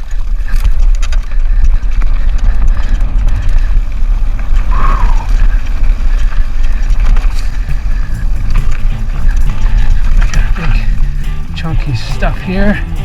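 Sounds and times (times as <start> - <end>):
bike rattling down rocky trail: 0.0 - 13.0
wind buffeting microphone: 0.0 - 13.0.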